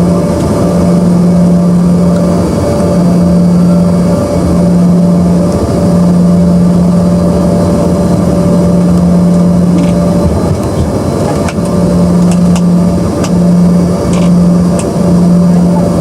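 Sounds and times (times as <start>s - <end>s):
jet engines in aircraft cabin: 0.0s - 16.0s.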